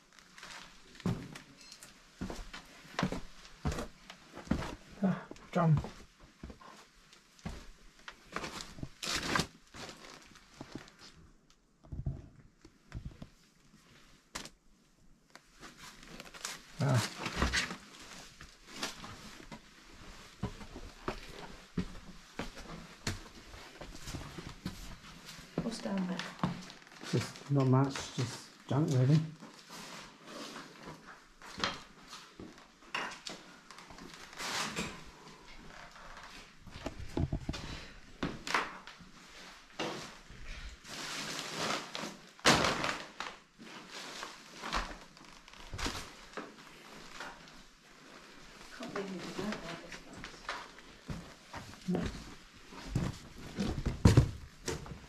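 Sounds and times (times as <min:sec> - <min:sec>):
footsteps in a room: 0:00.0 - 0:11.2, 0:15.4 - 0:28.1, 0:29.0 - 0:42.1, 0:43.2 - 0:55.0.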